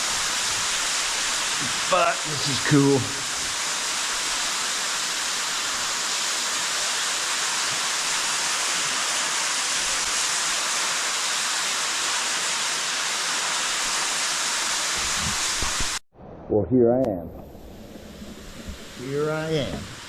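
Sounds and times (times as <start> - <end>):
waterfall rushing: 0.0 - 16.0, 18.4 - 20.0.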